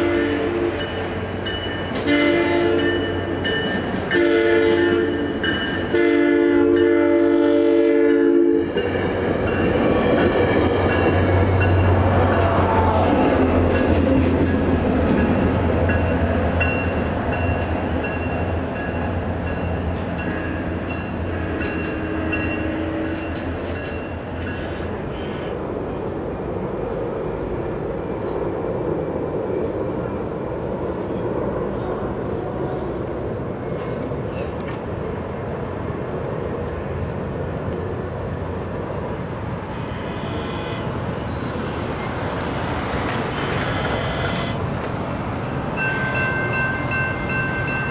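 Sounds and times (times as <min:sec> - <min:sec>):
diesel locomotive engine drone: 0:00.0 - 0:47.9
train rumble: 0:00.0 - 0:47.9.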